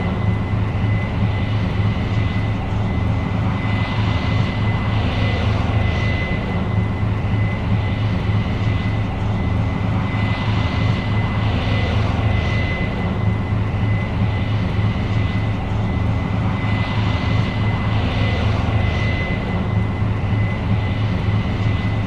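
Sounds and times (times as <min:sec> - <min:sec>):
combine engine drone: 0:00.0 - 0:22.0
thin high whine: 0:00.0 - 0:22.0.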